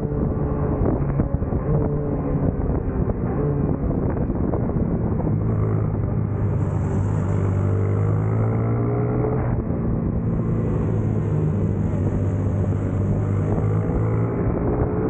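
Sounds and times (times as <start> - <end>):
racing motorcycle engine revving: 0.0 - 15.0.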